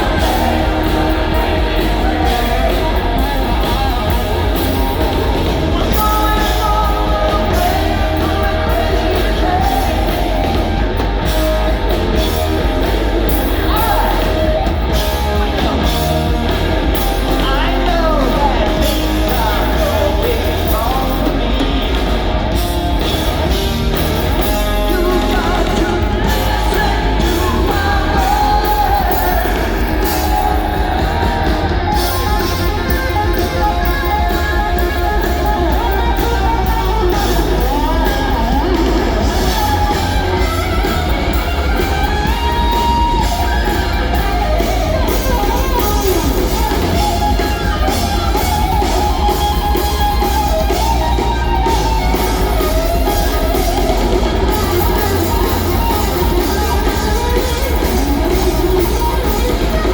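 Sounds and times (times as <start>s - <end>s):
electric guitar: 0.0s - 59.9s
person singing: 0.0s - 59.9s
rock band playing: 0.0s - 59.9s.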